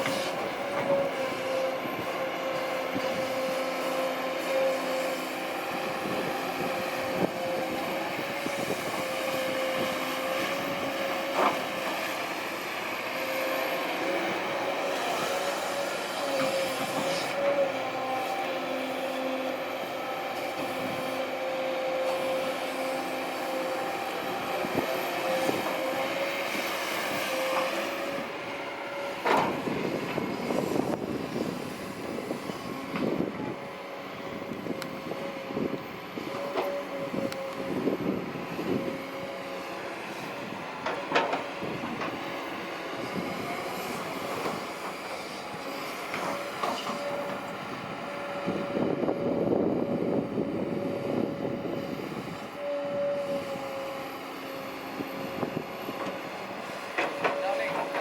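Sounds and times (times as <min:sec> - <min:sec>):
excavator engine whine: 0:00.0 - 0:58.0.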